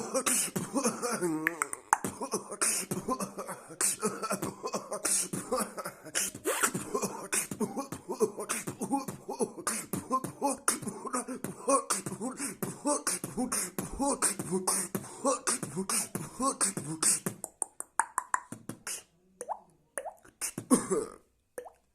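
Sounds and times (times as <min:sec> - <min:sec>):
person beatboxing: 0:00.0 - 0:21.8.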